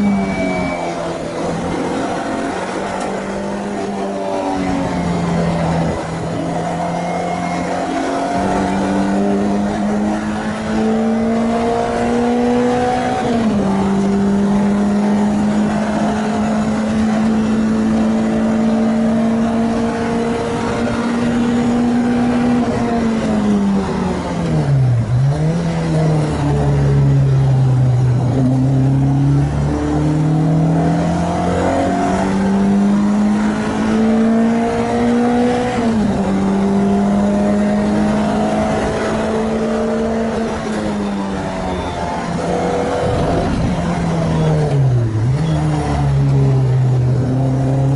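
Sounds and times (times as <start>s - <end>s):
car engine revving through gears: 0.0s - 47.9s.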